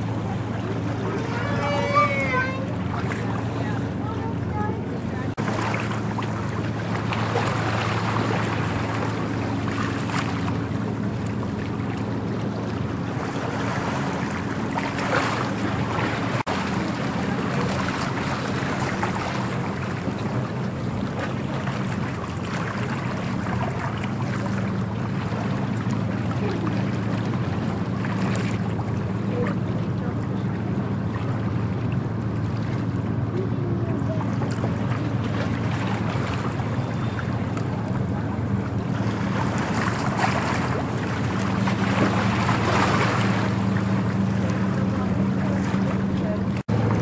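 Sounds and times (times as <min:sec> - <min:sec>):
diesel engine low hum: 0:00.0 - 0:47.0.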